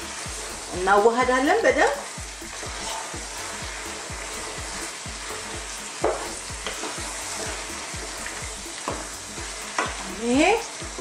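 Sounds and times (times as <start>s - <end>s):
vegetables sizzling in oil: 0.0s - 11.0s
wooden spoon stirring: 2.0s - 11.0s.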